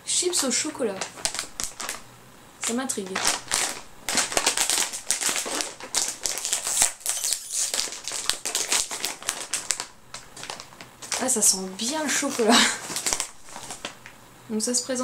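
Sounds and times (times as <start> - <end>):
plastic packet crinkling: 0.2 - 14.2.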